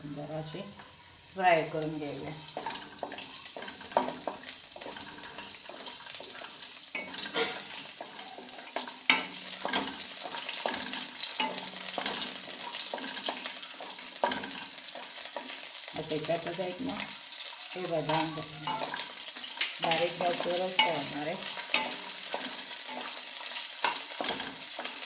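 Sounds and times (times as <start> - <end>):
nuts sizzling in hot fat: 0.0 - 25.0
wooden spatula scraping a pan: 2.2 - 25.0.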